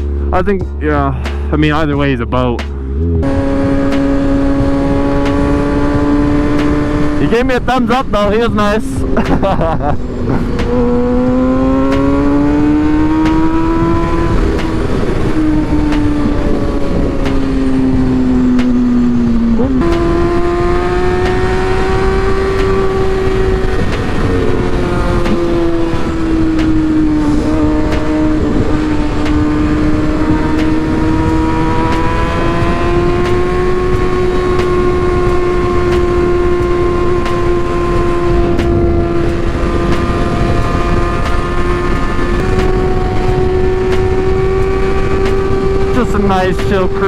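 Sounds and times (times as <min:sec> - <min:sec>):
motorcycle engine cruising: 0:00.0 - 0:47.0
wind noise on microphone: 0:03.0 - 0:47.0.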